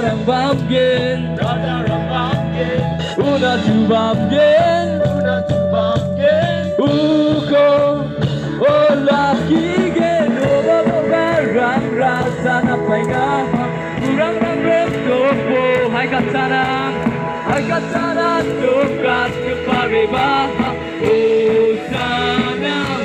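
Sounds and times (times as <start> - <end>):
amplified music with a beat: 0.0 - 23.0
crowd singing a worship song: 0.0 - 23.0.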